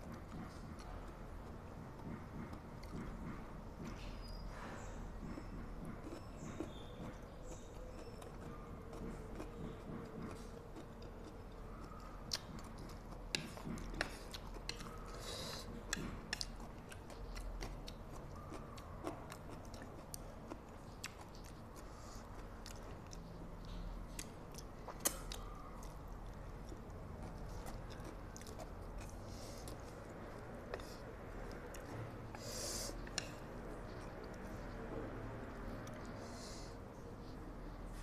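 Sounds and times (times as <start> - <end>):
person chewing noodles: 0.0 - 3.9, 5.1 - 37.4.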